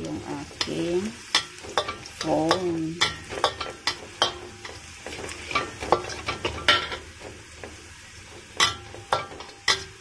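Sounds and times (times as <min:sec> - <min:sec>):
oil sizzling: 0:00.0 - 0:10.0
spatula scraping a metal wok: 0:00.0 - 0:10.0.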